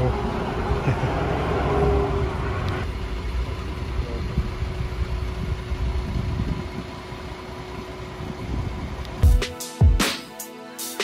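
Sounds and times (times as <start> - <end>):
bus engine rumble: 0.0 - 9.2
road noise: 0.0 - 9.2.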